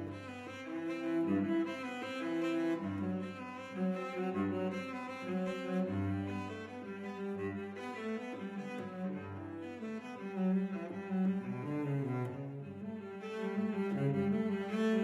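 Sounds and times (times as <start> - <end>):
bowed strings music: 0.0 - 15.0
cello sustained low notes: 0.0 - 15.0.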